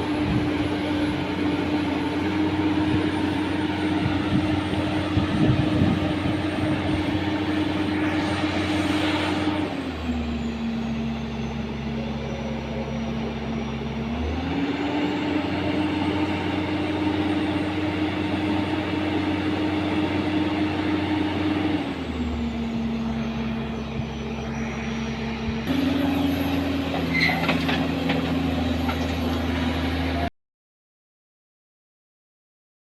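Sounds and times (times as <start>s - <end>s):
excavator diesel engine running: 0.0s - 30.3s.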